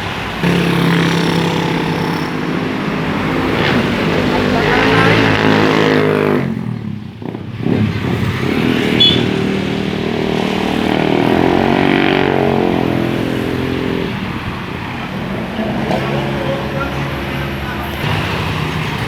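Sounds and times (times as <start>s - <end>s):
bus engines passing: 0.0s - 19.0s.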